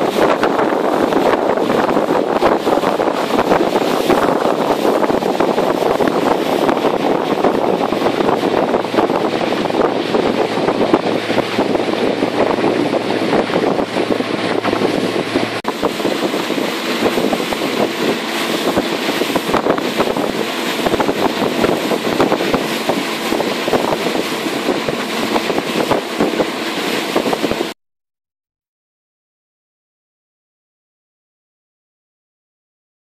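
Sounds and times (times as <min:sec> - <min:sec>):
motorboat engine running: 0:00.0 - 0:27.8
wind buffeting microphone: 0:00.0 - 0:27.8.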